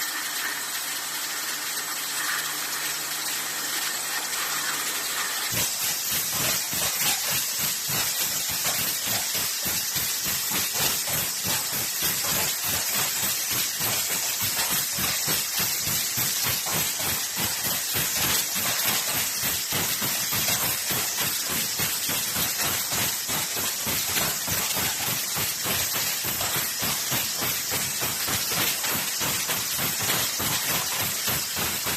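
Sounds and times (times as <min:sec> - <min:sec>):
machinery hissing and pulsing: 0:01.8 - 0:31.9.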